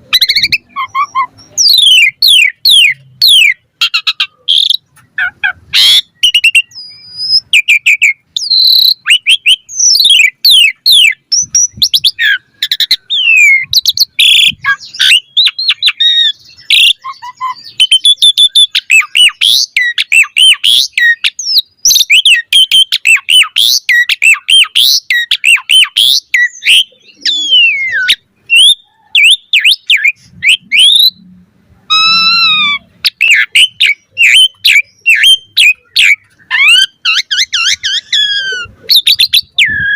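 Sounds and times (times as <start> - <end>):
wavering falling bird call: 0.0 - 31.3, 31.9 - 39.9
starling singing: 0.0 - 39.9.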